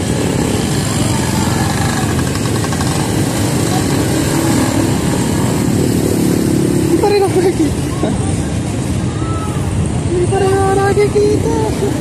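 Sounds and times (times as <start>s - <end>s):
motorcycle engines running: 0.0s - 12.0s
street traffic: 0.0s - 12.0s.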